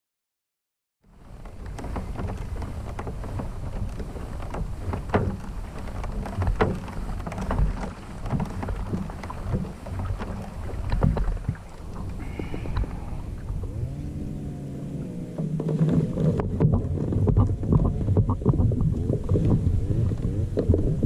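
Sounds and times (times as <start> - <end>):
water splashing against hull: 1.0 - 21.0
wind rumble on microphone: 1.1 - 21.0.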